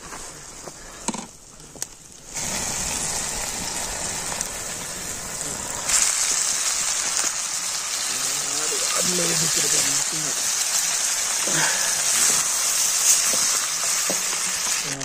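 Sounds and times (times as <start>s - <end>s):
food sizzling in hot oil: 2.2s - 15.0s.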